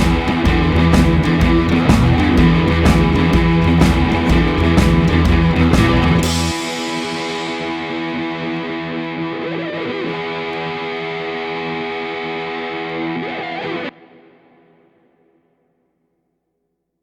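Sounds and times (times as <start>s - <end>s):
distorted electric guitar chords: 0.0s - 15.0s.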